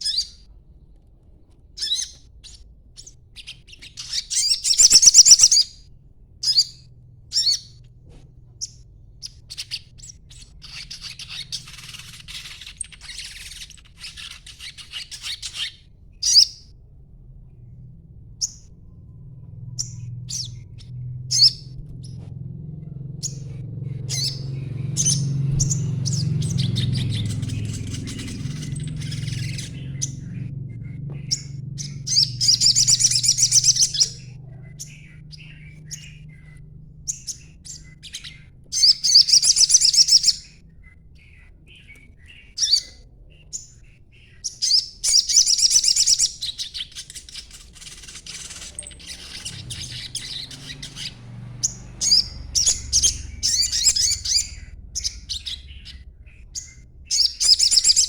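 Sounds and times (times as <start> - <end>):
songbird chirping and twittering: 0.0 - 0.6, 1.7 - 16.8, 17.4 - 58.0
low steady hum: 0.0 - 13.9, 15.2 - 45.4, 46.3 - 58.0.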